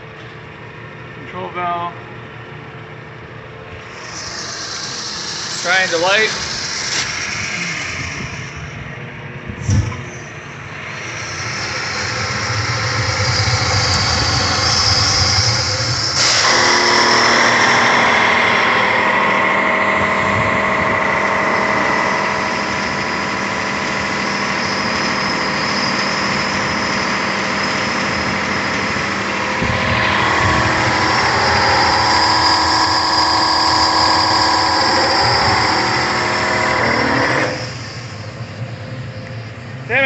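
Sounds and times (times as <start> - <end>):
pressure washer humming: 3.9 - 8.6, 10.7 - 38.7.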